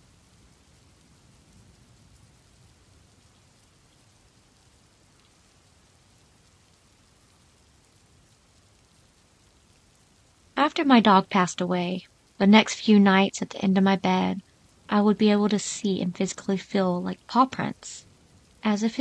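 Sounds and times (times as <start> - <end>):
faint rain: 0.0 - 19.0.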